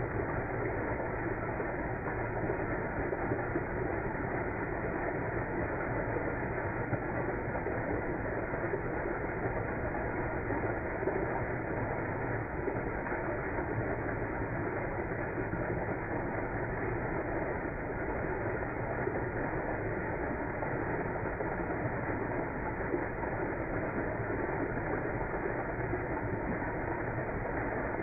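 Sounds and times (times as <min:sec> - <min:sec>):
fountain jets splashing into water: 0:00.0 - 0:28.0.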